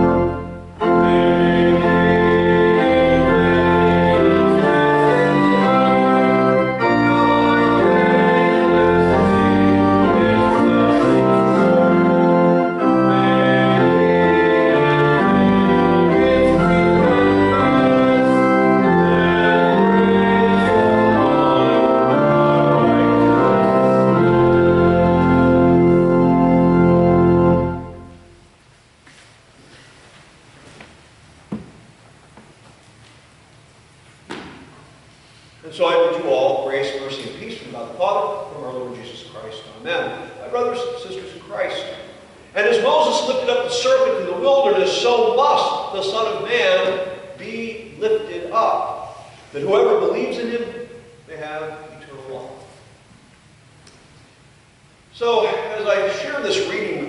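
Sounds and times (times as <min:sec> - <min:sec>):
church organ playing hymn chords: 0:00.0 - 0:28.7, 0:35.0 - 0:53.7, 0:54.5 - 0:57.0.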